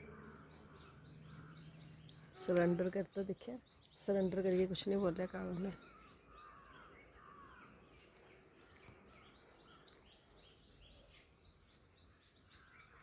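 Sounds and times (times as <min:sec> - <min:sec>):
bird chirping: 0:00.0 - 0:13.0
outdoor background noise: 0:00.0 - 0:13.0.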